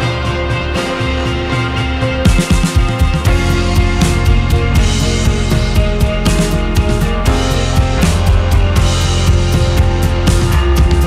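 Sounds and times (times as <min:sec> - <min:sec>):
rock music with drums and bass: 0:00.0 - 0:11.0.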